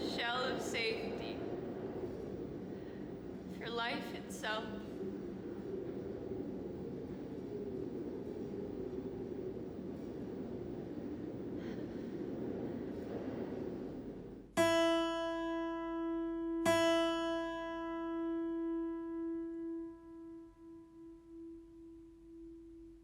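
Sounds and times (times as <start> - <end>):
low noisy hum: 0.0 - 23.0.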